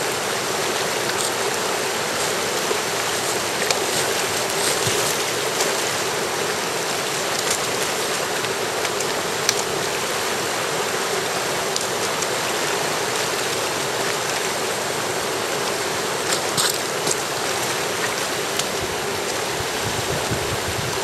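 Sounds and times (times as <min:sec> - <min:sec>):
river rushing over rapids: 0:00.0 - 0:21.0.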